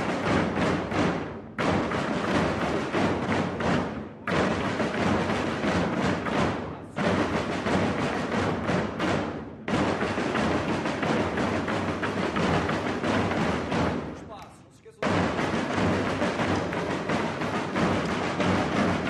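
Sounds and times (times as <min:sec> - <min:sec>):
group of bass drums playing: 0:00.0 - 0:19.0.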